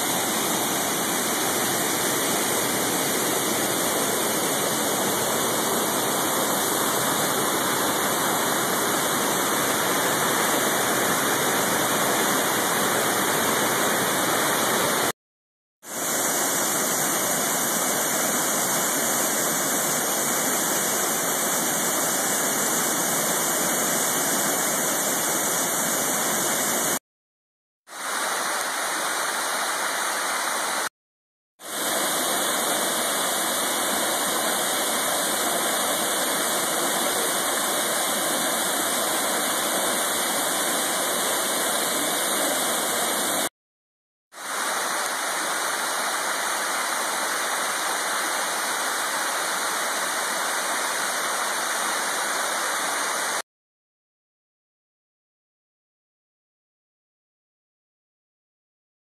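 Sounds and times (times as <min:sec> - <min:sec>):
waterfall rushing: 0:00.0 - 0:15.1, 0:15.9 - 0:27.0, 0:28.0 - 0:30.9, 0:31.7 - 0:43.5, 0:44.4 - 0:53.4.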